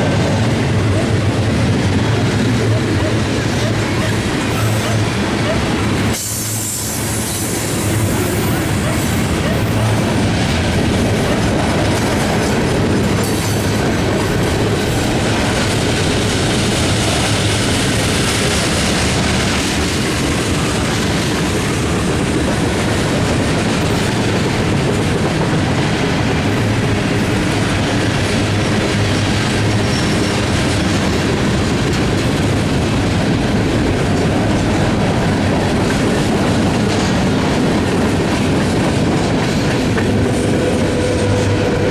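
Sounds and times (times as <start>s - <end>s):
freight train wheels rumbling: 0.0s - 41.9s
wheels clacking over rail joints: 7.1s - 41.9s.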